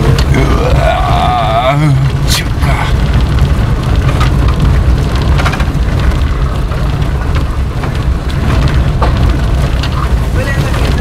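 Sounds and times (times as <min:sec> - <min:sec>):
road rumble: 0:00.0 - 0:11.0
wind buffeting microphone: 0:00.0 - 0:11.0.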